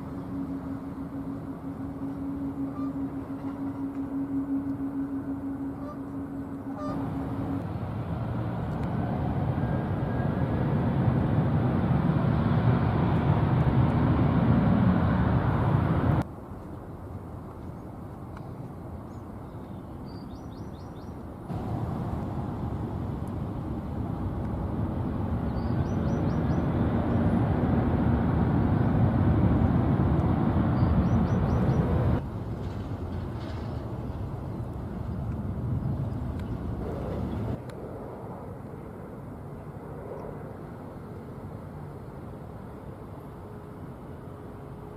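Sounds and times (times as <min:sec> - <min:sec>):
jet airliner engines rumbling: 0:00.0 - 0:16.3, 0:20.6 - 0:44.9.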